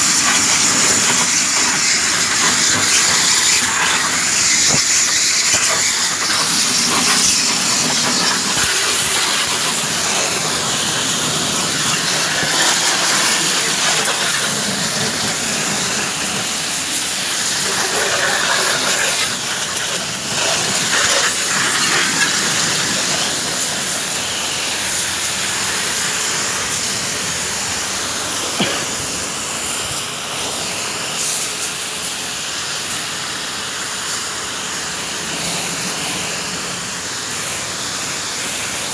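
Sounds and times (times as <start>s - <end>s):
loud steady hiss: 0.0s - 38.9s.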